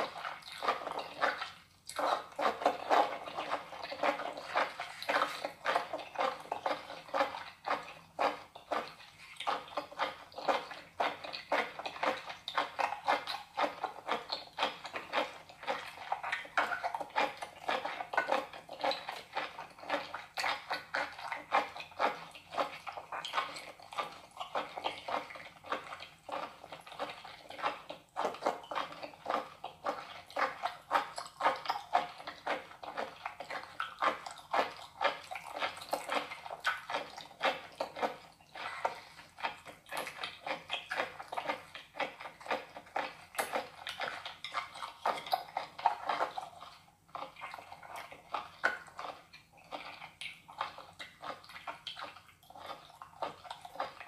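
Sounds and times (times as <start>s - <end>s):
wet squelching and sticky clicking: 0.0s - 54.0s.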